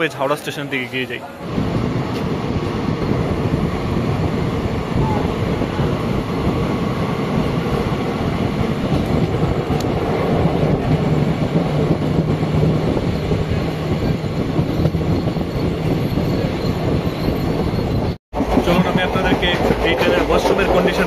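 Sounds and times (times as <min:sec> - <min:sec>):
train wheels rumbling on track: 0:01.5 - 0:21.0.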